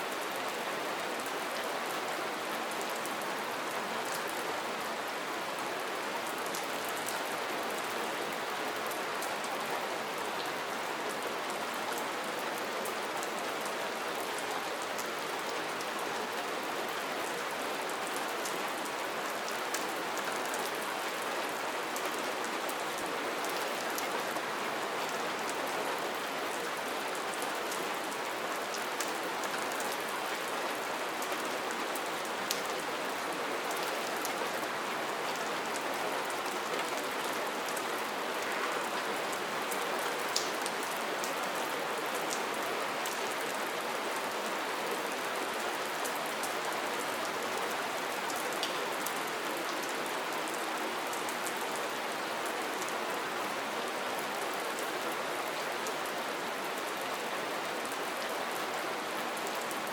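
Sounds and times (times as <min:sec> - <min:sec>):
steady soft rain: 0:00.0 - 0:59.9.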